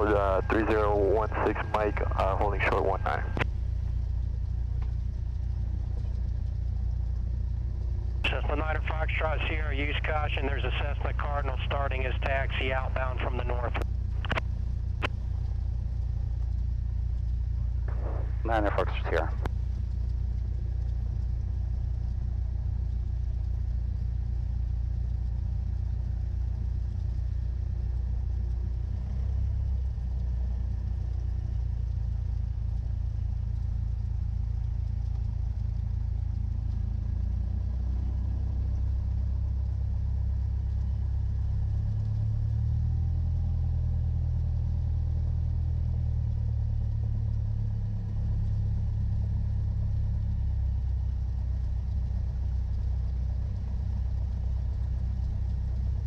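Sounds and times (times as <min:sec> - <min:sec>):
small plane engine droning: 0:00.0 - 0:56.0.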